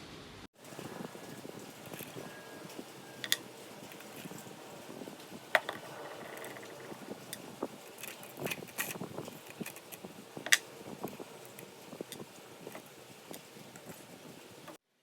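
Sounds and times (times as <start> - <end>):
metal tools clicking and tapping: 1.2 - 14.8.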